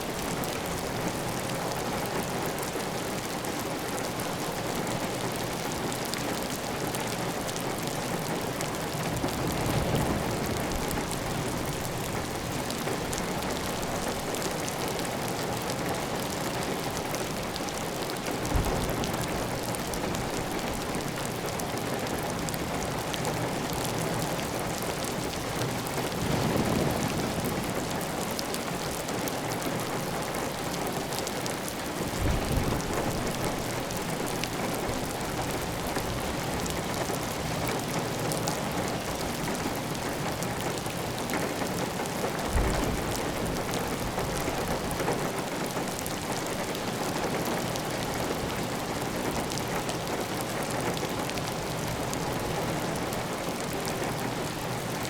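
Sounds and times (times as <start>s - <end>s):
heavy rain on a tile roof: 0.0s - 55.0s.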